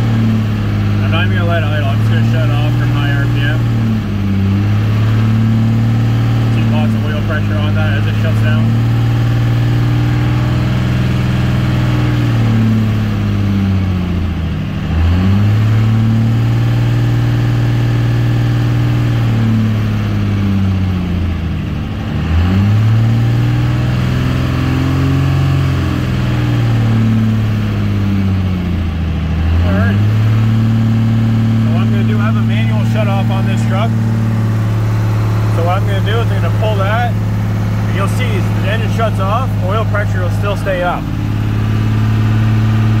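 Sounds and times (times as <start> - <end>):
diesel engine running loud: 0.0 - 43.0.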